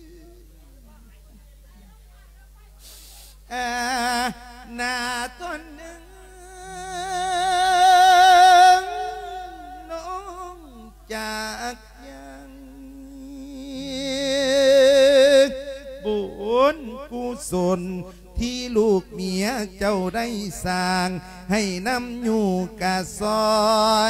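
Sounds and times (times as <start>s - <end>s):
monk chanting: 3.5s - 24.0s.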